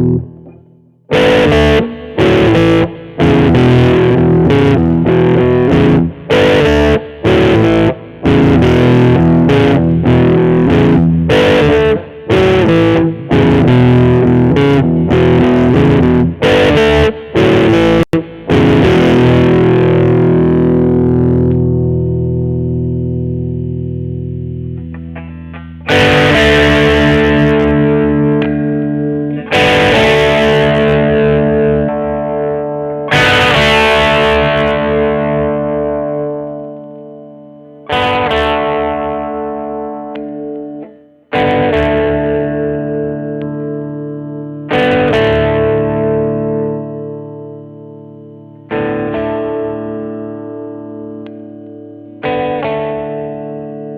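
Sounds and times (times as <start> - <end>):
electric guitar strumming chords: 0.0 - 53.9.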